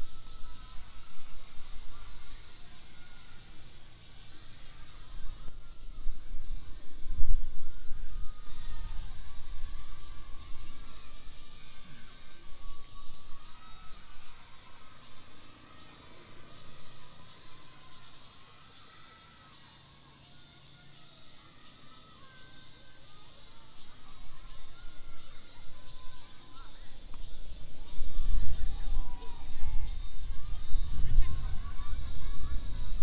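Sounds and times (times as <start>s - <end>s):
faint wavering calls: 0.0s - 33.0s
high-pitched insect drone: 0.0s - 33.0s.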